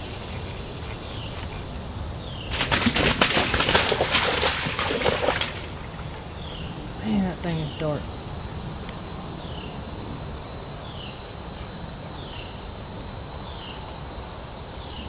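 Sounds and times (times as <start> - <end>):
low outdoor rush: 0.0 - 15.0.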